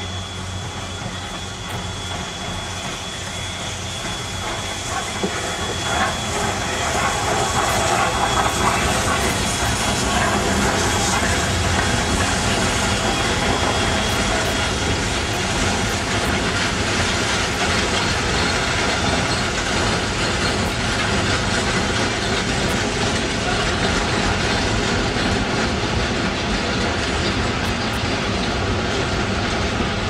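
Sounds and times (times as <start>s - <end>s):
train wheels rolling on track: 0.0s - 30.0s.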